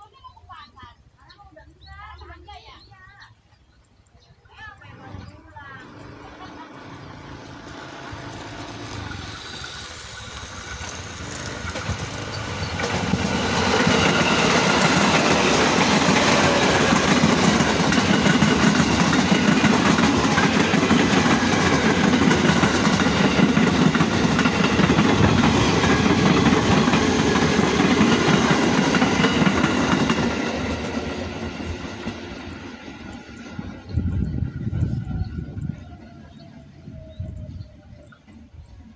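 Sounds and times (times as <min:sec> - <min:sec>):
electric train passing: 0:04.7 - 0:38.9.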